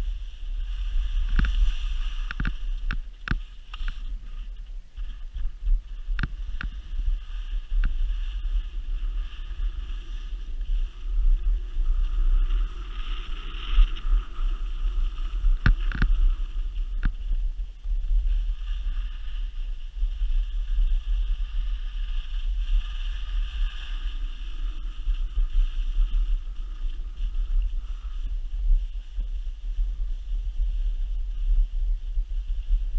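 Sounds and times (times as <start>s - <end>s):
skis sliding on packed snow: 0.0s - 32.9s
wind rumble on microphone: 0.0s - 32.9s.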